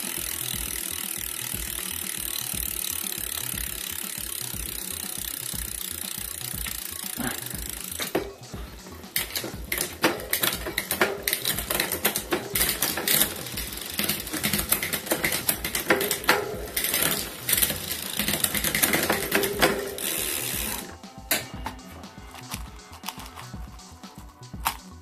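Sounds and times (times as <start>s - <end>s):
bicycle chain clicking and rattling: 0.0s - 25.0s.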